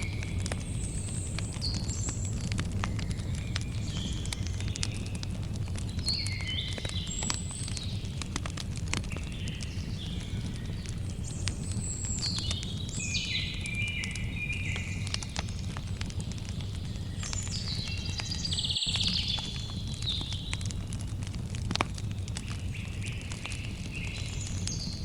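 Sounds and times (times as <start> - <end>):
bird singing: 0.0 - 5.2, 5.8 - 8.1, 9.0 - 20.7, 22.1 - 25.0
campfire crackling and popping: 0.0 - 25.0.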